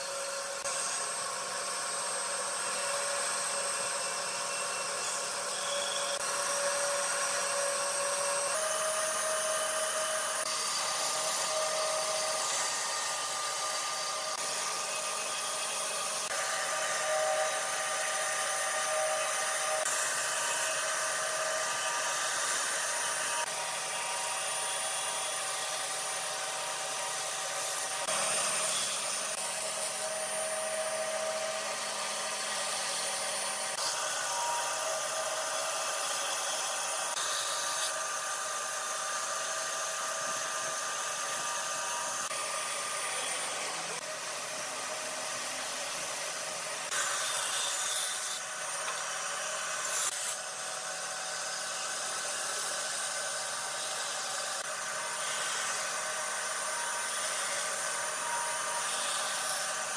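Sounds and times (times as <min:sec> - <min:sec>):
bandsaw cutting wood: 0:00.0 - 0:59.9.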